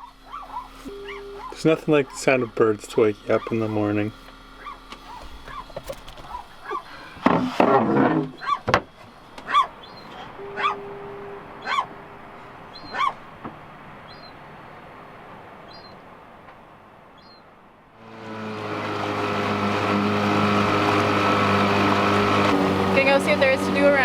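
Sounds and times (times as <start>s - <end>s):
gulls calling: 0.0s - 14.9s, 18.2s - 24.0s.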